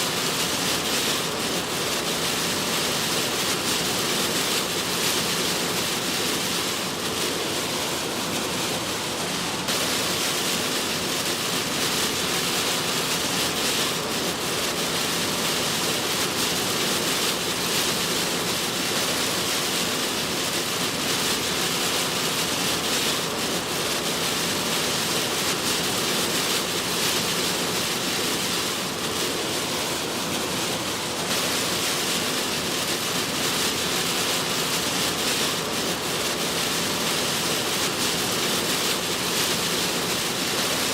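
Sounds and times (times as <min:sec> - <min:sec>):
heavy rain on car: 0:00.0 - 0:40.9
tyre spray and road noise: 0:00.0 - 0:40.9.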